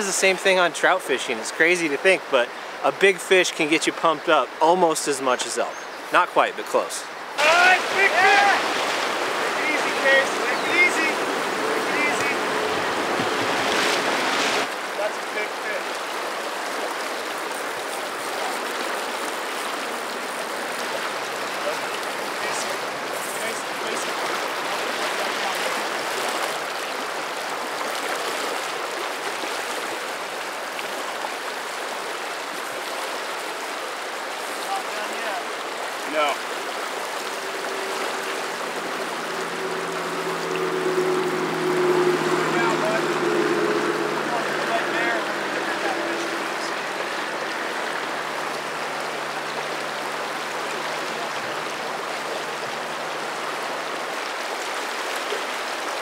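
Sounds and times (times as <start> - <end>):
shallow river rushing: 0.0 - 56.0.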